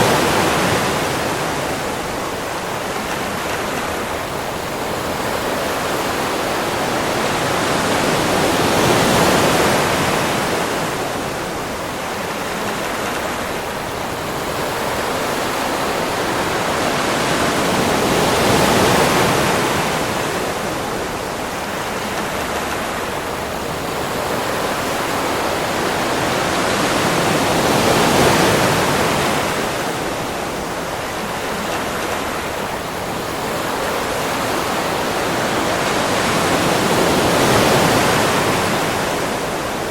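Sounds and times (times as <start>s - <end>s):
ocean waves washing on beach: 0.0s - 39.9s.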